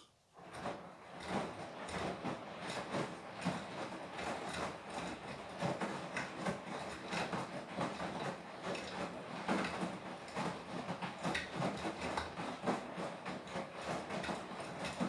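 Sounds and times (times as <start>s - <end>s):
washing machine laundry tumbling: 0.4s - 15.0s.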